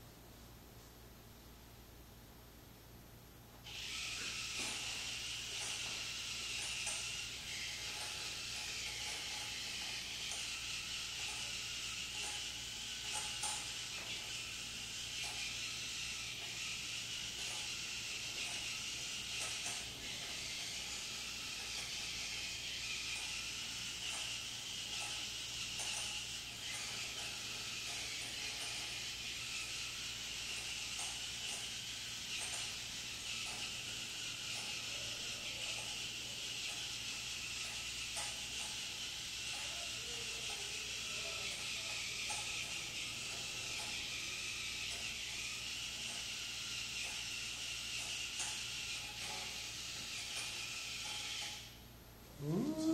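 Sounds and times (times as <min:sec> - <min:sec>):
steady hiss: 0:03.5 - 0:52.9
servomotors whirring: 0:03.6 - 0:52.9.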